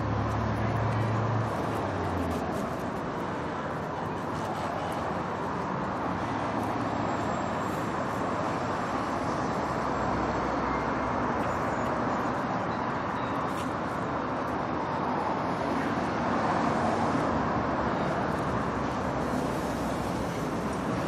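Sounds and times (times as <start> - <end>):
heavy street traffic: 0.0 - 21.0.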